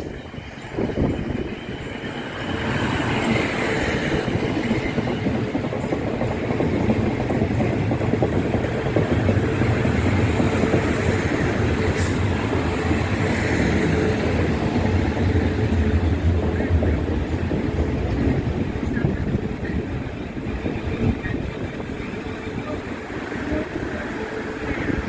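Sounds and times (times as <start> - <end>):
passenger train rumbling: 0.0 - 25.0.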